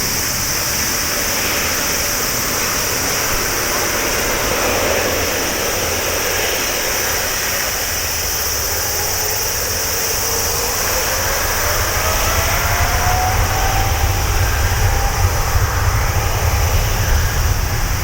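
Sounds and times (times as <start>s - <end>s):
jet engine rumble and hiss: 0.0s - 18.0s
jet engine whine rising: 0.0s - 18.0s.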